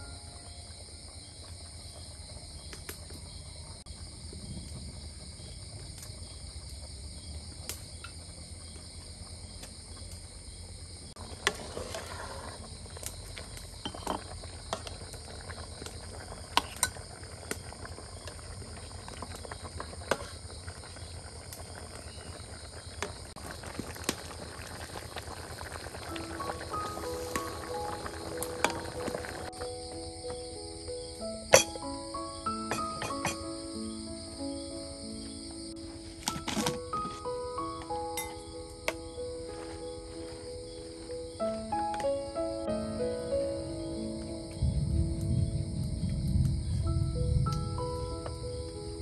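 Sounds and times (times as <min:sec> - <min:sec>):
night insects trilling: 0:00.0 - 0:49.0.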